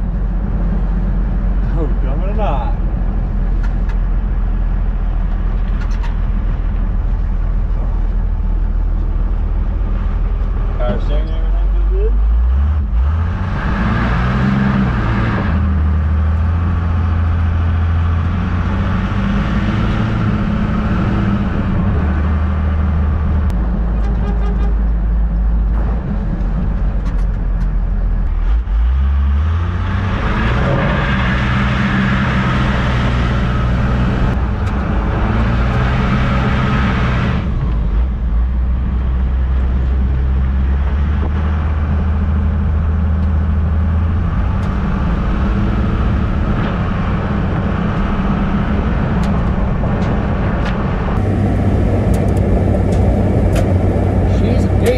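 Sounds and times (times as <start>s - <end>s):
diesel truck engine under load: 0.0s - 54.9s.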